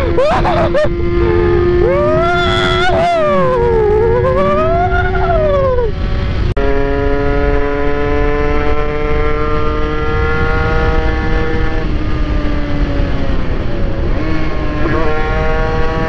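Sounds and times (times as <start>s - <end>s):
motorcycle engine revving: 0.0s - 16.0s
wind rumbling on microphone: 0.0s - 16.0s.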